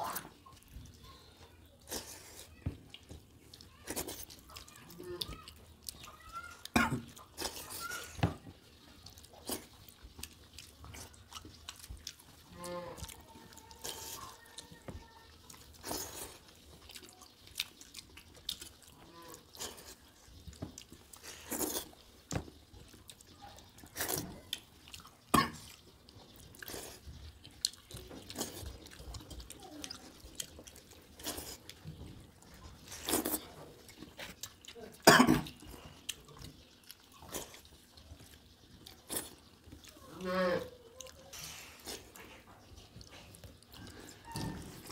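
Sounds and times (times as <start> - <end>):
wet chewing and lip smacks: 0.0 - 8.0, 8.6 - 40.1, 40.8 - 44.9.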